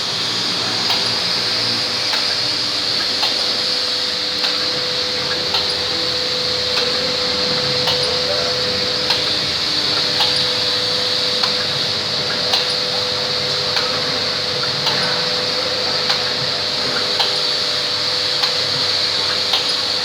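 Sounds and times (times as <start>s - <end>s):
packing machine hum and hiss: 0.0s - 20.0s
machine clicks: 0.8s - 15.2s, 16.0s - 20.0s.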